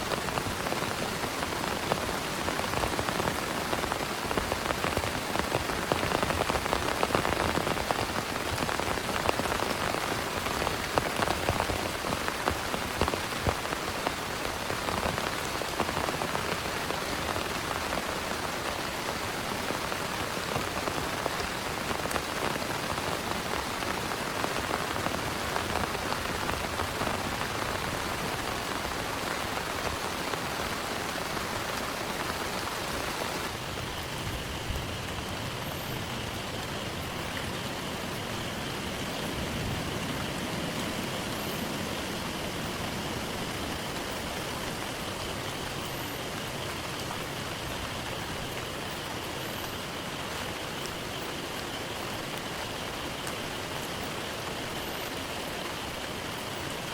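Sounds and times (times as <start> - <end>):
heavy rain pattering: 0.0 - 56.9.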